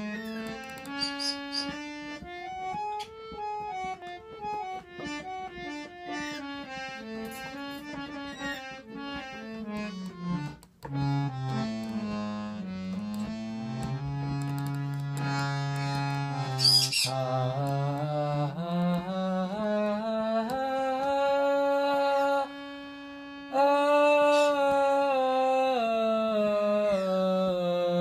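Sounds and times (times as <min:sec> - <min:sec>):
harmonium playing: 0:00.0 - 0:28.0.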